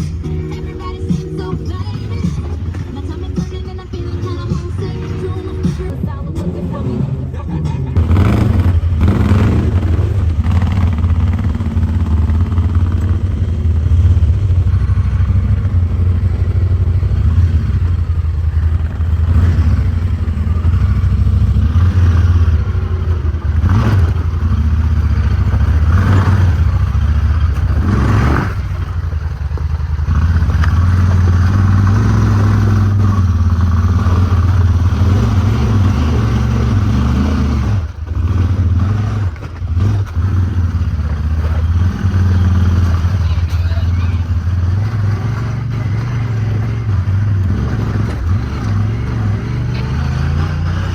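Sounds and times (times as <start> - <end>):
engine droning and revving: 0.0 - 50.9.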